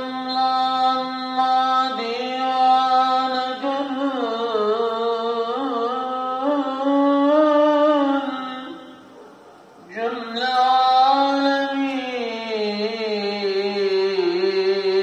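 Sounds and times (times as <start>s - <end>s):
man chanting melismatic call: 0.0s - 15.0s.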